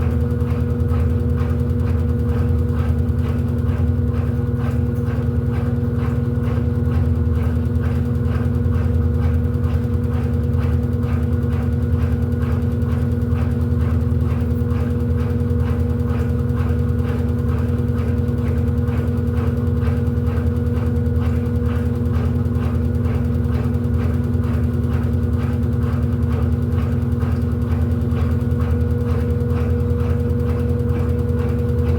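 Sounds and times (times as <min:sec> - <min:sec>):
washing machine knocking: 0:00.0 - 0:31.9
washing machine motor hum: 0:00.0 - 0:31.9.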